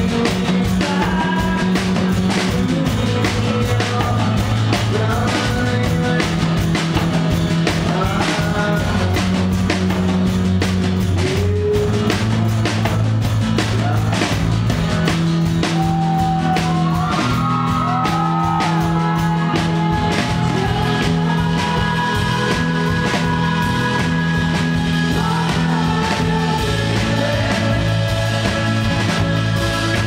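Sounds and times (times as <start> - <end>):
man singing: 0.0 - 10.4, 11.0 - 30.0
steady drum beat: 0.0 - 30.0.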